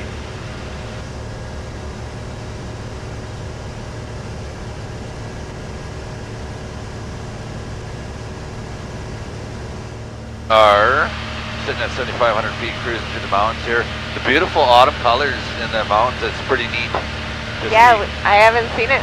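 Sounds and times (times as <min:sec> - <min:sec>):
light aircraft engine drone: 0:00.0 - 0:19.0.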